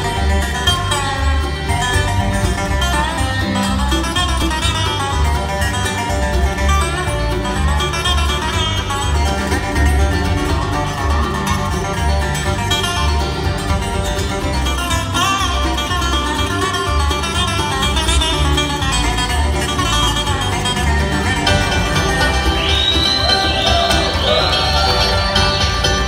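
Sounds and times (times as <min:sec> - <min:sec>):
resonator slide guitar: 0:00.0 - 0:26.0
steady bass beat: 0:00.0 - 0:26.0
strummed acoustic guitar: 0:00.0 - 0:26.0.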